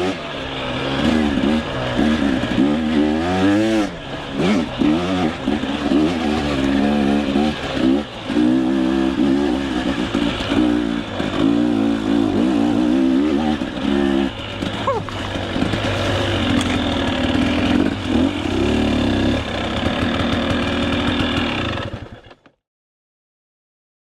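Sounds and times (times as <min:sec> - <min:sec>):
dirt bike engine revving: 0:00.0 - 0:22.4.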